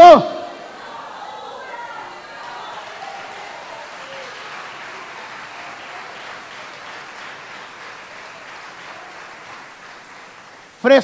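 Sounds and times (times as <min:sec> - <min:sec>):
congregation applauding: 0:00.0 - 0:11.0.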